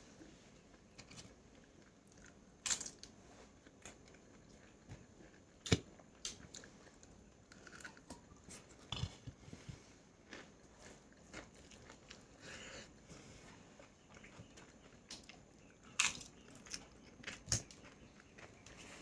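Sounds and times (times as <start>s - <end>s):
person chewing food: 0.3s - 19.0s.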